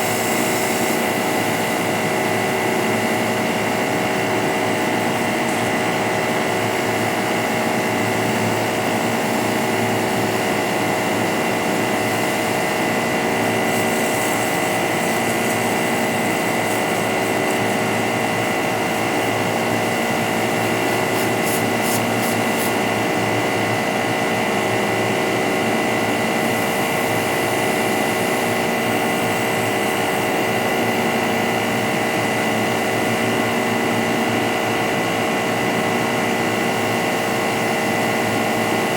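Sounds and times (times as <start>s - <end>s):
pressure washer whining: 0.0s - 38.9s.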